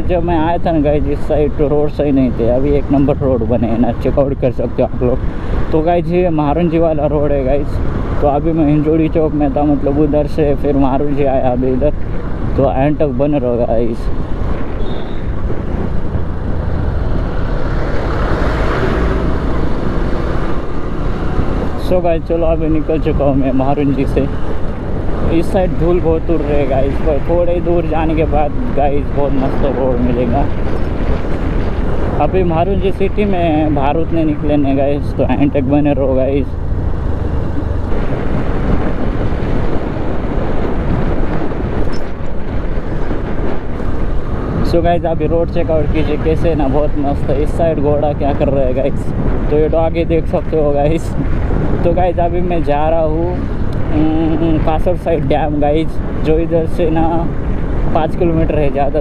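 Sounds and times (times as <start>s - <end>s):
motorcycle engine and road noise: 0.0s - 59.0s
wind rumble on microphone: 0.0s - 59.0s.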